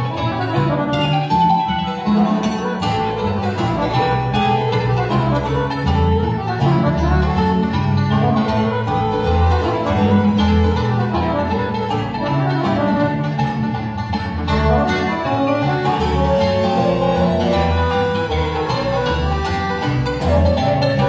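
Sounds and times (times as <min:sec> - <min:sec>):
folk band playing strings: 0:00.0 - 0:21.0
stepping bass line: 0:00.0 - 0:21.0.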